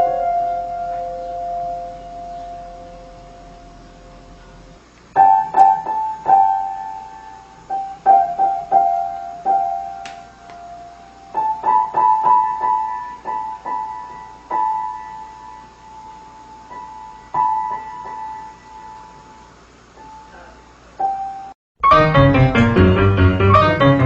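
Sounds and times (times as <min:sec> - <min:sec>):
piano notes: 0:00.0 - 0:24.0.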